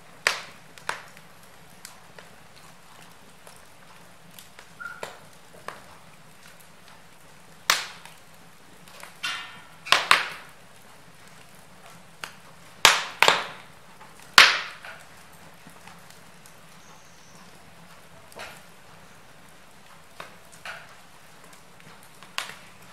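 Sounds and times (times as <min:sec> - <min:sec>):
burning logs popping: 0:00.0 - 0:22.9
wood fire crackling: 0:00.0 - 0:22.9.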